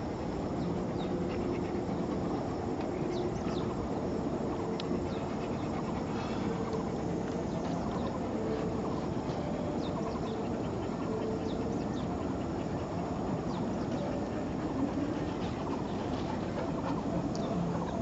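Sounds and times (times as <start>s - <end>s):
distant city traffic rumble: 0.0s - 18.0s
faint engine-like hum: 0.0s - 18.0s.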